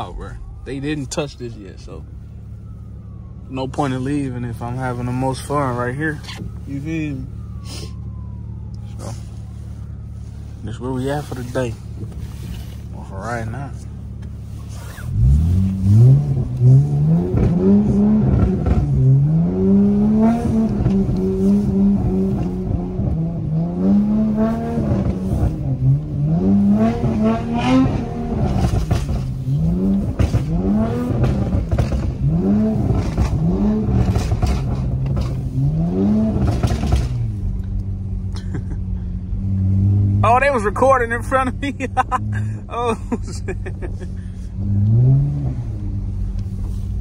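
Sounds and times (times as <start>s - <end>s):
car engine revving: 8.8s - 47.0s.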